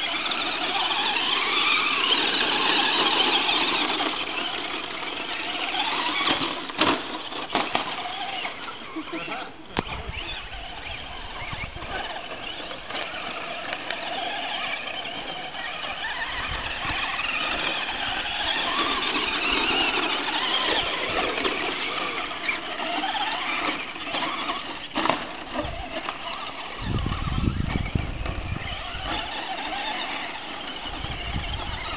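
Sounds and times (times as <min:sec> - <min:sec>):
electric toy cars whining: 0:00.0 - 0:31.9.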